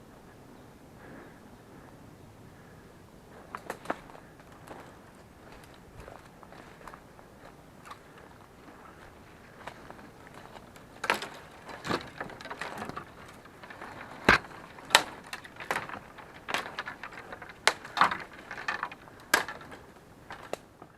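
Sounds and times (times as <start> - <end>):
footsteps crunching leaves and twigs: 3.3 - 20.7
twigs cracking: 3.3 - 20.9.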